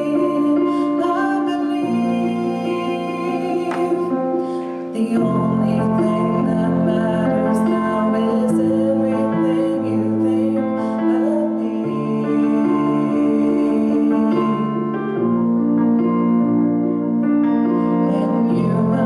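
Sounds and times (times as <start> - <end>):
woman singing: 0.0 - 15.3, 17.6 - 19.0
keyboard chords: 0.0 - 19.0.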